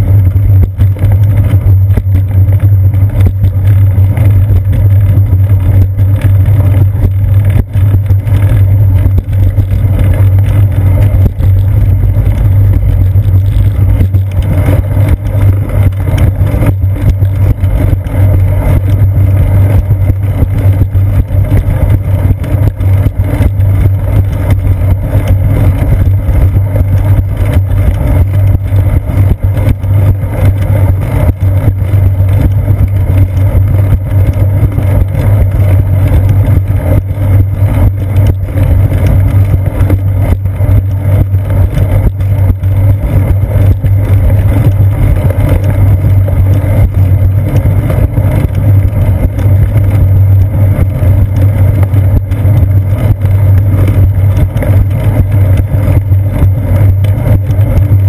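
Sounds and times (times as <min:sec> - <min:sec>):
bicycle riding vibration: 0:00.0 - 0:58.0
wind rumble: 0:00.0 - 0:58.0.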